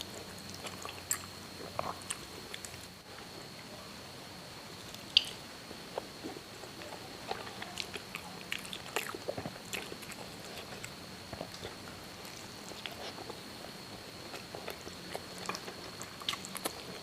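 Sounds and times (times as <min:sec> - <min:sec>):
chewing and wet mouth smacks: 0:00.0 - 0:03.0, 0:06.0 - 0:17.0.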